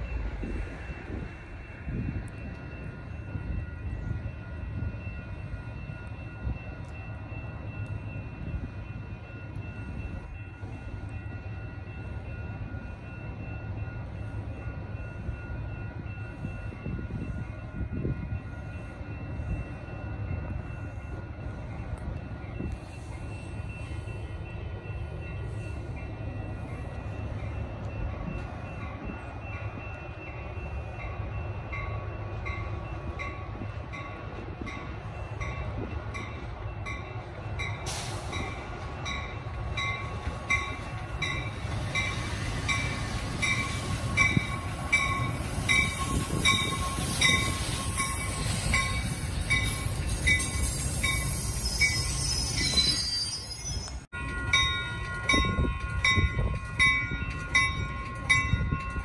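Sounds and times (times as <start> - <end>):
wind buffeting microphone: 0.0 - 11.1, 14.0 - 53.0, 54.1 - 59.0
crossing bell ringing: 0.0 - 59.0
distant train approaching: 0.0 - 59.0.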